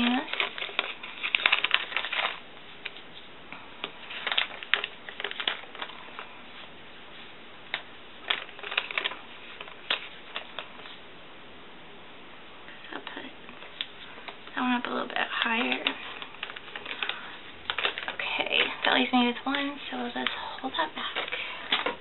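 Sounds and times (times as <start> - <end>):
paper rustling and crinkling: 0.0 - 11.0, 13.0 - 22.0.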